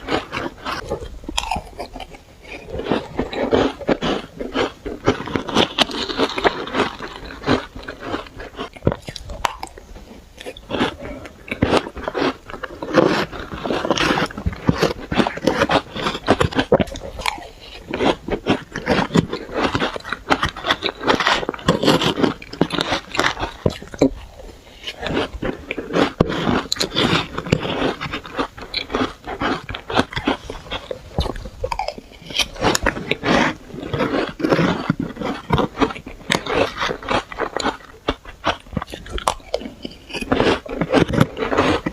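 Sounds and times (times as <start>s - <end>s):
chewing shaved ice crunching: 0.0s - 41.9s.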